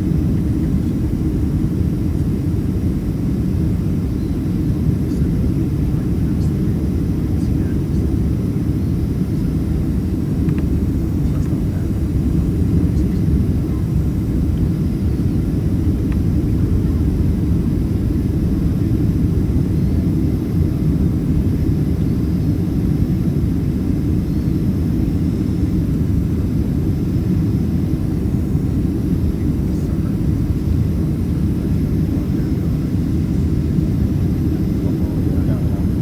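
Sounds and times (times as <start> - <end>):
airliner cabin engine and airflow rumble: 0.0 - 36.0.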